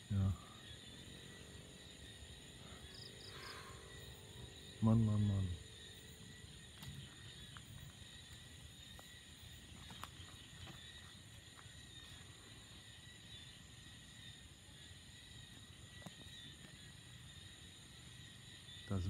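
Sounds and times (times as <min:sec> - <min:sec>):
night insects chorus: 0:00.0 - 0:19.0.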